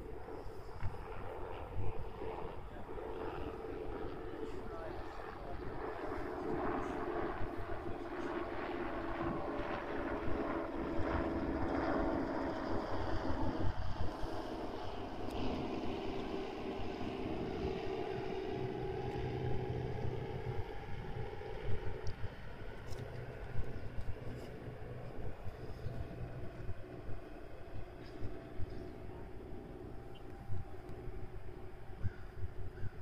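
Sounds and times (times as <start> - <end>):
engine drone: 0.0 - 33.0.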